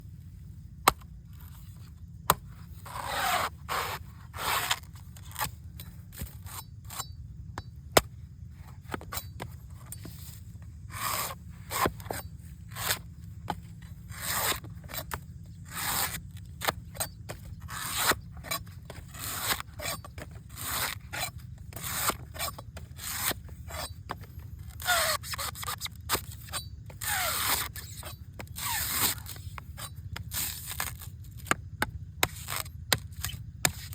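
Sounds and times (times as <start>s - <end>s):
blade scraping coconut: 0.0s - 33.9s.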